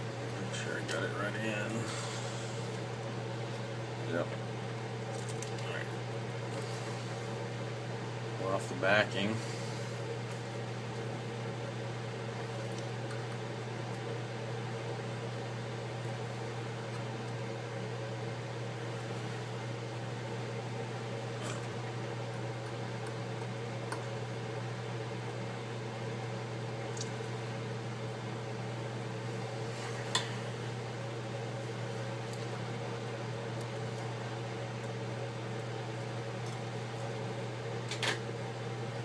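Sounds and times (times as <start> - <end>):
machine humming: 0.0 - 39.0.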